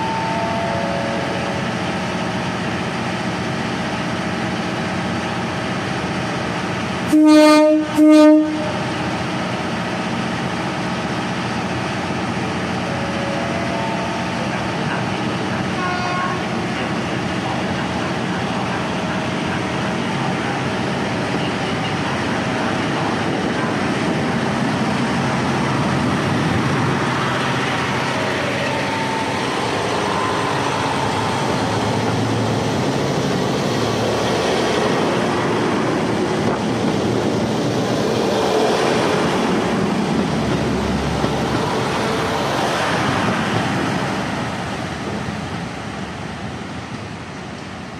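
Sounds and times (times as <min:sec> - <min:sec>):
diesel train engines: 0:00.0 - 0:47.9.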